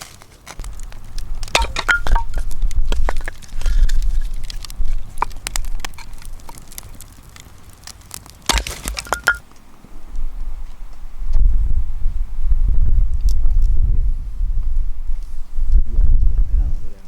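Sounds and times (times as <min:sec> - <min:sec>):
campfire crackling and popping: 0:00.0 - 0:11.9, 0:12.6 - 0:16.4
wind rumble on microphone: 0:00.5 - 0:08.3, 0:09.0 - 0:17.0.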